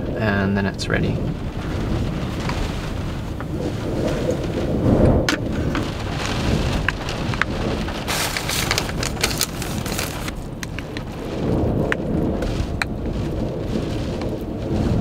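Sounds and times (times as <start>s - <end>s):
rain on car roof: 0.0s - 15.0s
wind buffeting car: 0.0s - 15.0s.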